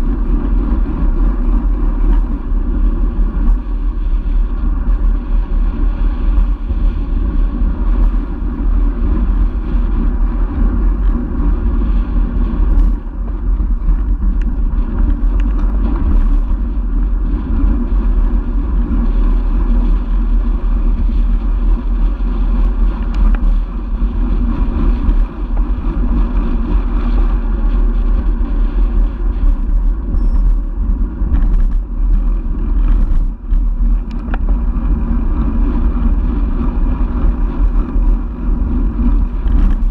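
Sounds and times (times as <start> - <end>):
road rumble: 0.0 - 39.9
wind buffeting: 0.0 - 39.9.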